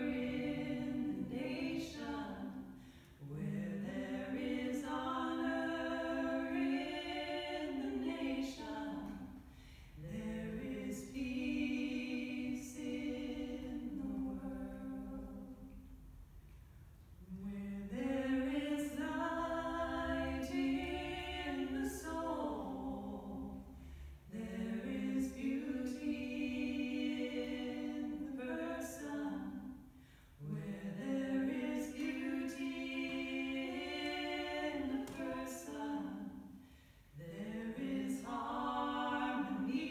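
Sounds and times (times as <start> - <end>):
women singing a cappella: 0.0 - 16.0, 17.2 - 39.9.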